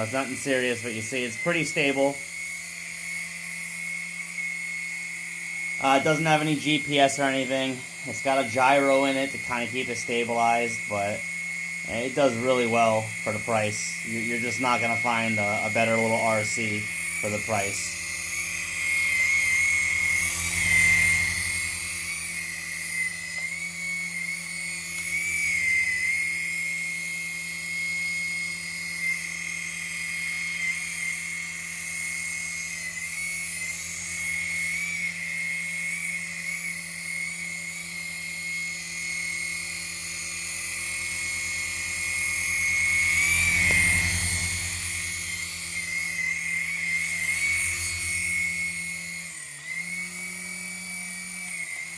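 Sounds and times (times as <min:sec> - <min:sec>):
electric motors whining: 0:00.0 - 0:51.9
rotor blades fluttering: 0:00.0 - 0:51.9.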